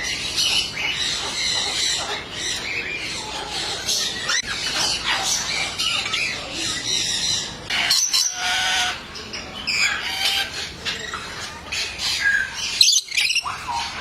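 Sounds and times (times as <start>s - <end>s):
birds squawking: 0.0s - 14.0s.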